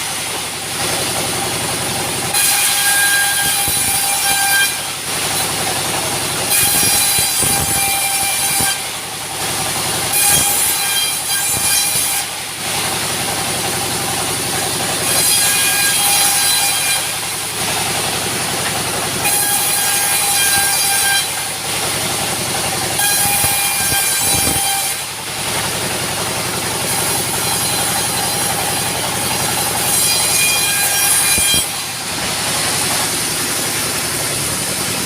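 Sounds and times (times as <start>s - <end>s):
sawmill saw whining: 0.0s - 35.0s.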